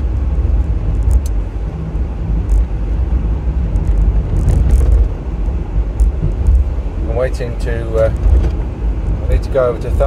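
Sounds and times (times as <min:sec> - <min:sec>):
car engine and tyres rumble: 0:00.0 - 0:10.0.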